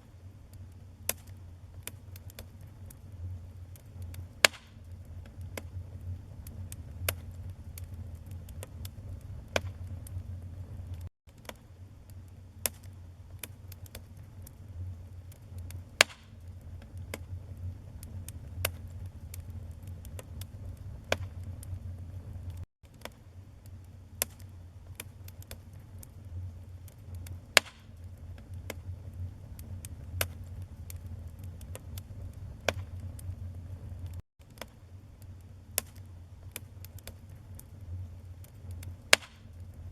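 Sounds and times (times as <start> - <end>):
low rumble of flame: 0.0 - 39.9
wood crackling and popping: 0.4 - 39.9.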